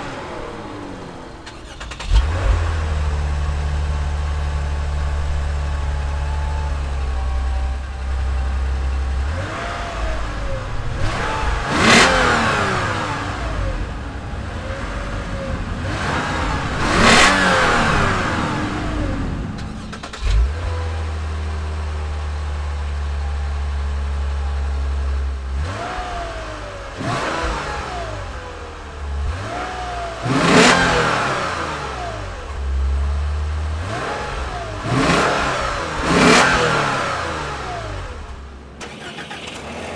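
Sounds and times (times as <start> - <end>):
car exhaust idling and revving: 0.0 - 39.9.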